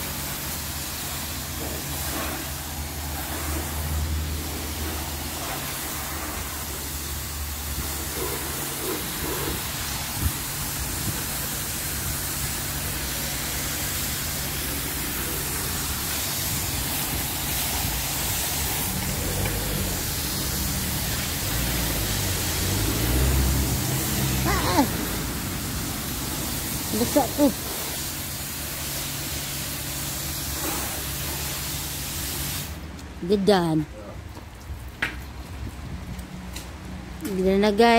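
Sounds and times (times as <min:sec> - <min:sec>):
high-pressure water spray hissing: 0:00.0 - 0:33.6.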